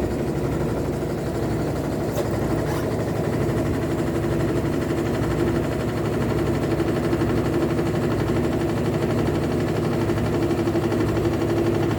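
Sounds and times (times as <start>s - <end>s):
washing machine droning hum: 0.0s - 11.9s.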